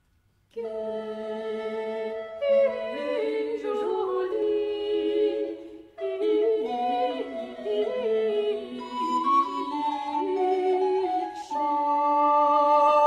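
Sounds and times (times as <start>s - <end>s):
women singing in harmony: 0.6s - 13.0s.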